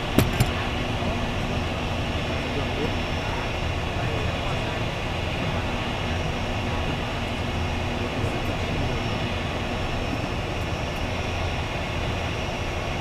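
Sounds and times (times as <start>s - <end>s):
jet engines idling: 0.0s - 13.0s.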